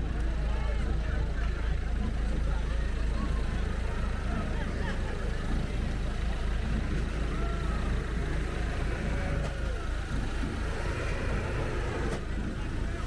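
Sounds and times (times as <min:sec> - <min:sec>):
faint crowd voices: 0:00.0 - 0:13.0.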